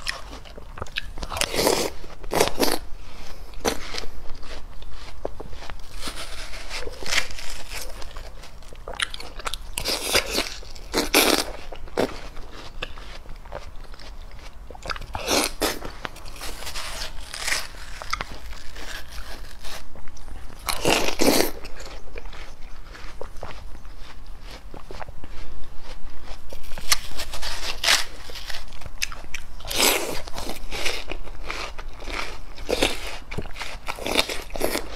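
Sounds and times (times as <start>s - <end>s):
wet crunchy chewing: 0.0s - 34.9s.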